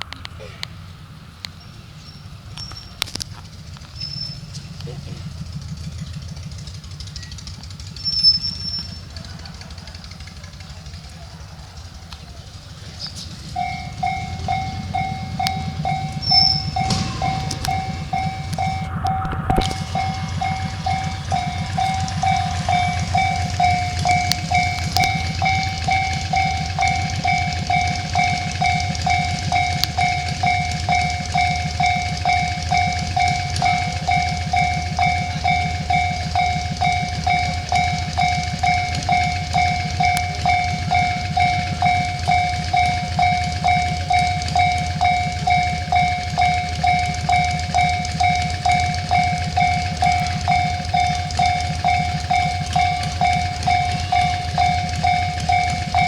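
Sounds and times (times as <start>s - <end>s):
level-crossing alarm ringing: 0.0s - 56.0s
passing train rumble: 0.0s - 56.0s.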